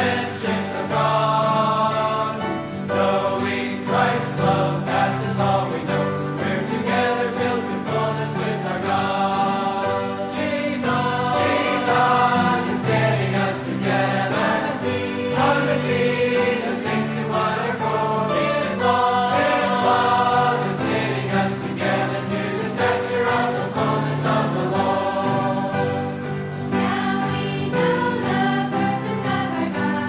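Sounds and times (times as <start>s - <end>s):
choir singing a hymn: 0.0s - 30.0s.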